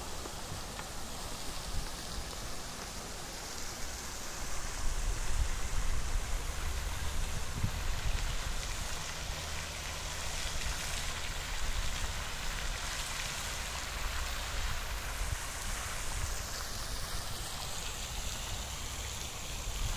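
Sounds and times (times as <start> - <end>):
fountain splashing into water: 0.0 - 19.9.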